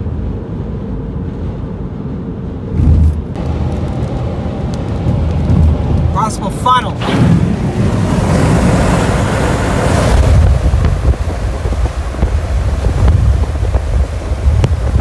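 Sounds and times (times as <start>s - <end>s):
wind buffeting microphone: 2.7s - 15.0s.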